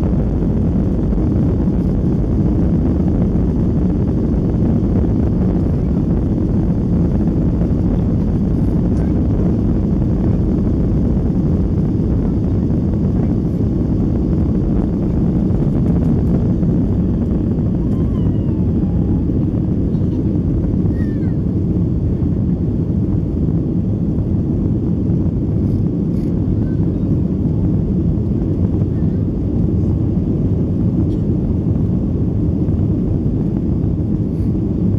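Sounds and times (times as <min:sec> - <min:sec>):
jet engine rumble inside cabin: 0:00.0 - 0:34.9.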